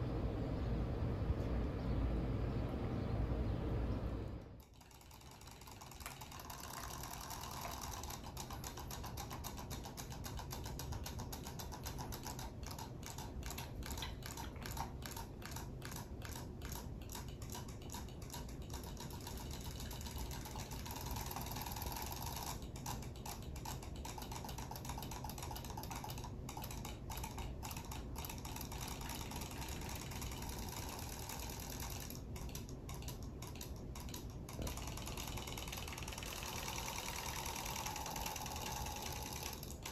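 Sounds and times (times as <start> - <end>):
toy motors ticking whirr: 4.6 - 39.9.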